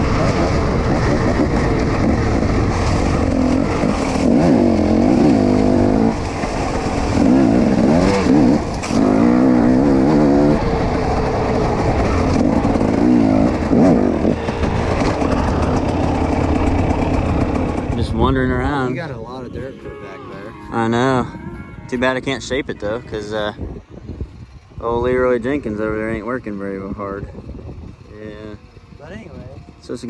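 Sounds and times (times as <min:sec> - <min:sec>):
dirt bike engine revving: 0:00.0 - 0:24.2.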